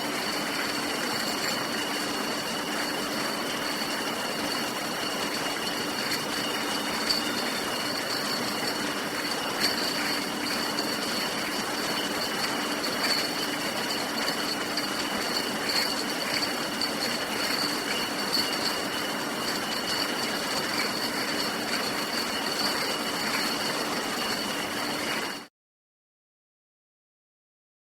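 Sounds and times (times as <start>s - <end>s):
constant machine whine: 0.0s - 25.5s
bottling machine din: 0.1s - 25.4s
glass bottles clinking: 0.6s - 24.5s.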